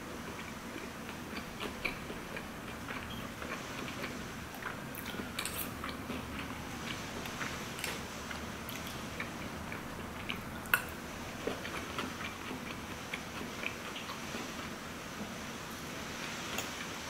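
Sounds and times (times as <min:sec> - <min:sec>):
close-up chewing: 0:00.2 - 0:14.8.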